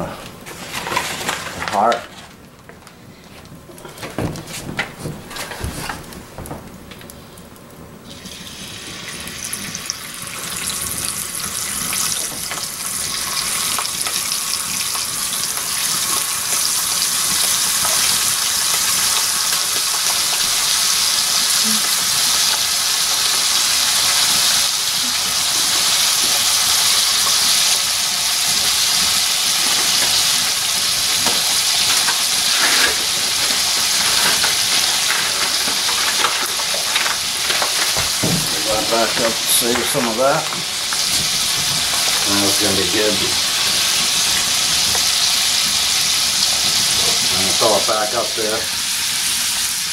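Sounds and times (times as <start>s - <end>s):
meat sizzling in fat: 4.4s - 49.9s.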